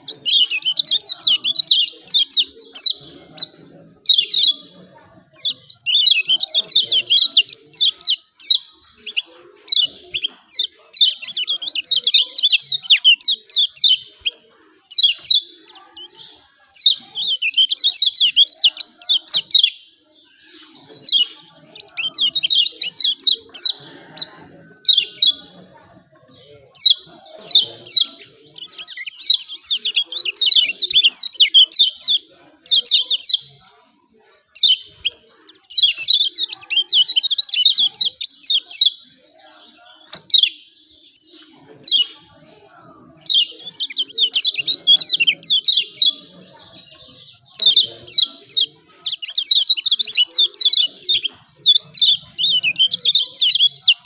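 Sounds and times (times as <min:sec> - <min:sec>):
bird rapid high chirps: 0:00.0 - 0:33.6, 0:34.4 - 0:42.3, 0:43.1 - 0:54.0.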